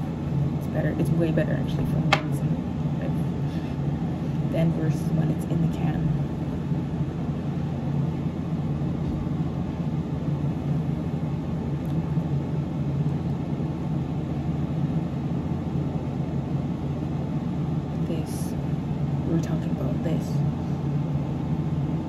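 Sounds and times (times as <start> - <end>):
low droning room hum: 0.0 - 22.0.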